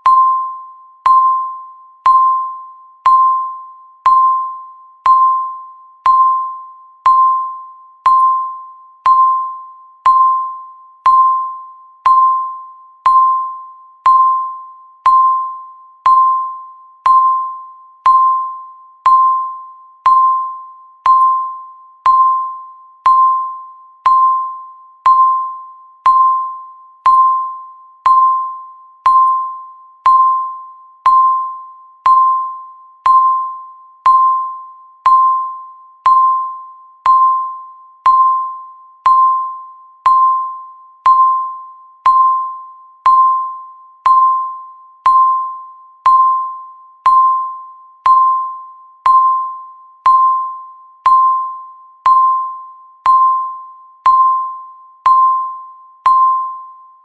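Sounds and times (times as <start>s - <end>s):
electronic timer ding: 0.0s - 57.0s.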